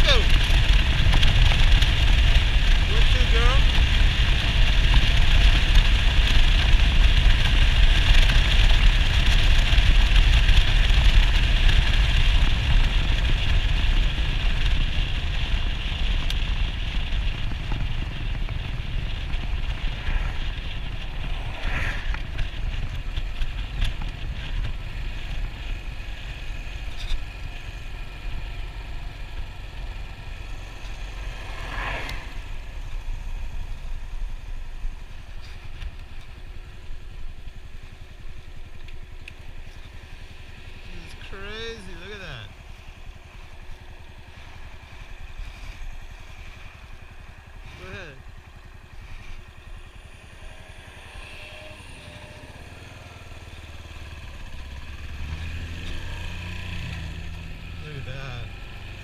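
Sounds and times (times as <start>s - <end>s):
wind and road rush: 0.0s - 59.0s.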